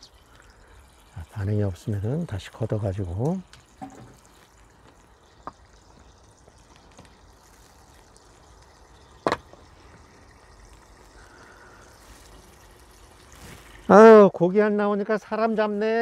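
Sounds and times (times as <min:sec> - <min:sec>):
pond water trickling and lapping: 0:00.0 - 0:16.0.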